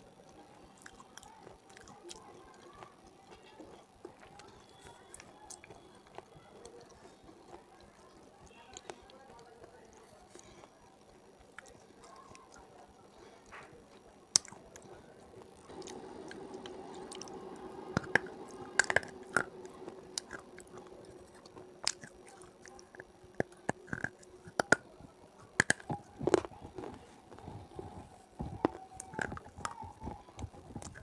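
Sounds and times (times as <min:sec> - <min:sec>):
mouth chewing crunchy food: 0:00.0 - 0:31.0.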